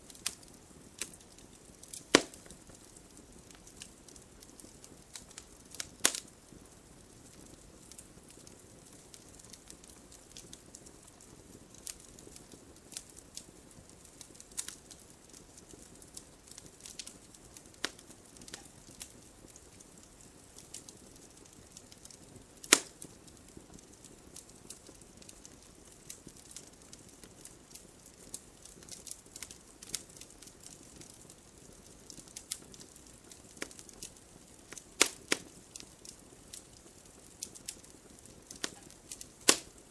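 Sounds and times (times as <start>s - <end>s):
fire hissing: 0.0s - 23.2s, 24.1s - 39.9s
campfire crackling and popping: 0.0s - 39.9s.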